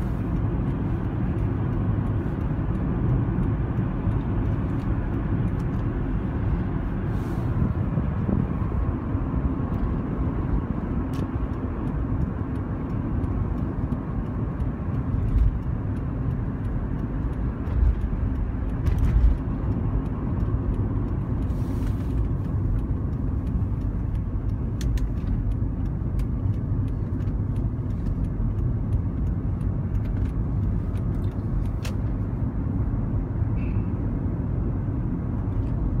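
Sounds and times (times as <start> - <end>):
car cabin rumble: 0.0 - 36.0.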